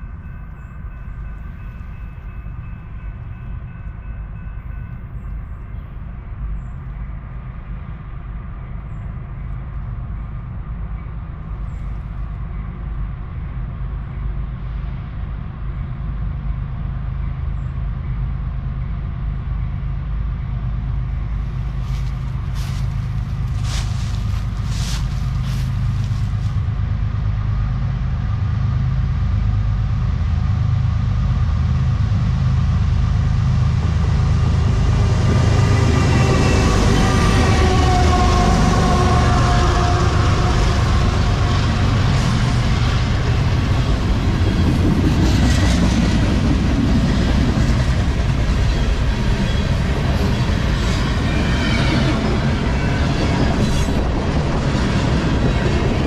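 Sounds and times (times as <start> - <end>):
freight train rumble: 0.0 - 56.0.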